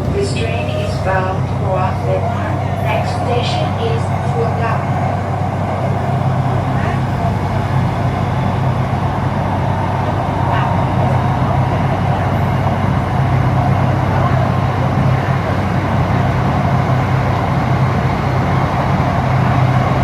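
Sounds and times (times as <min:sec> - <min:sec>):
train car low hum: 0:00.0 - 0:20.0
train running rumble: 0:00.0 - 0:20.0.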